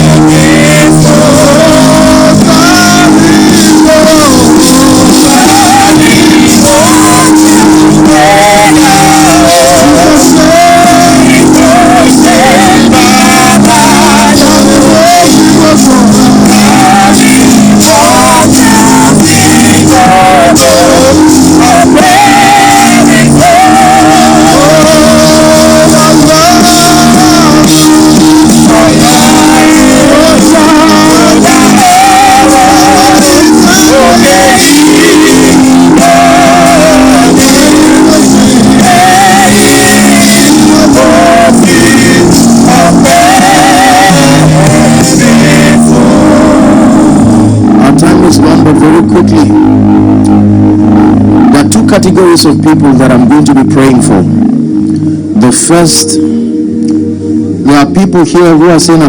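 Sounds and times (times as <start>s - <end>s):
band playing: 0.0s - 59.0s
person singing with vibrato: 0.0s - 59.0s
sustained keyboard chords: 0.0s - 59.0s.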